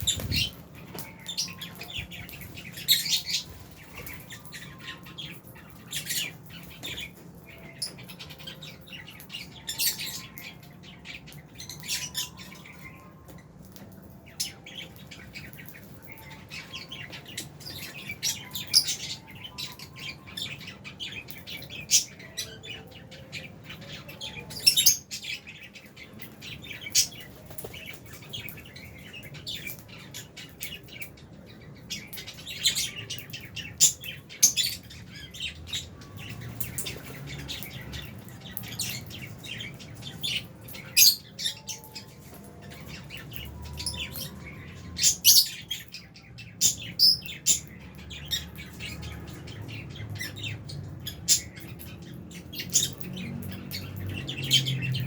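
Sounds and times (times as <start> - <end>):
lovebirds chirping and squawking: 0.0 - 55.0.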